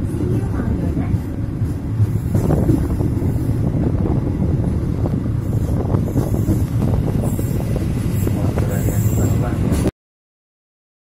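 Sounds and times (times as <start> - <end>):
wheels rumbling on rails: 0.0 - 9.9
wind buffeting microphone: 0.0 - 9.9.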